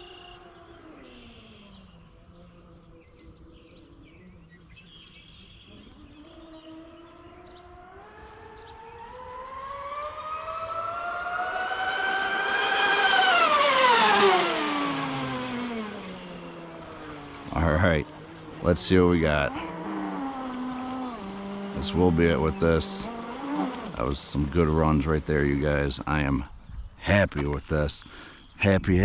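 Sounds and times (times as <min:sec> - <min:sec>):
rc boat motor whine passing: 0:00.0 - 0:26.0.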